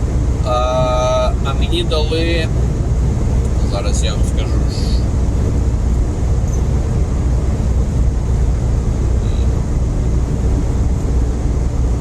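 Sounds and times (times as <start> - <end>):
road noise inside cab: 0.0 - 12.0
truck engine drone: 0.0 - 12.0.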